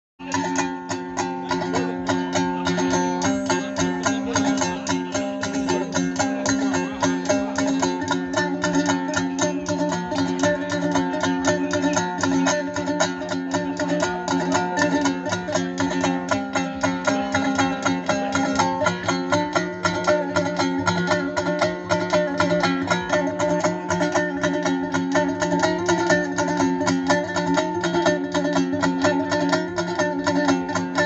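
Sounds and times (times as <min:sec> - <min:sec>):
two-string lute strumming: 0:00.2 - 0:31.0.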